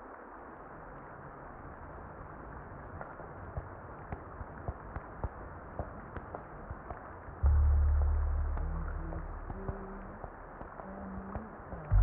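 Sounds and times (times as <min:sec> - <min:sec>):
muffled rain hiss: 0:00.0 - 0:12.0
raindrop clicks: 0:02.3 - 0:12.0.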